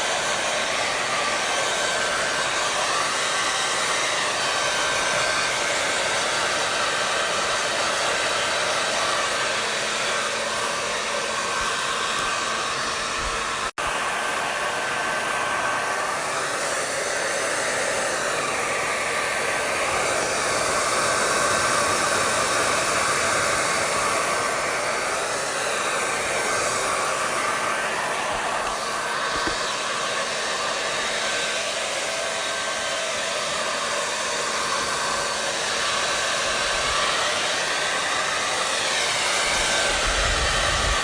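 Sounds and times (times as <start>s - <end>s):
hair dryer blowing air: 0.0s - 41.0s.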